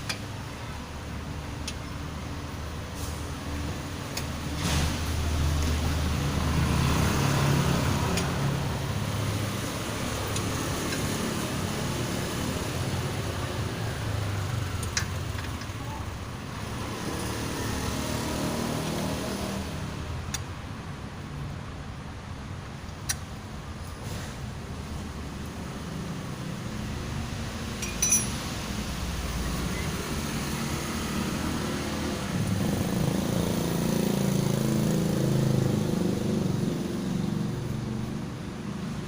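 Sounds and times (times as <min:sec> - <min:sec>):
engine rumble: 0:00.0 - 0:39.0.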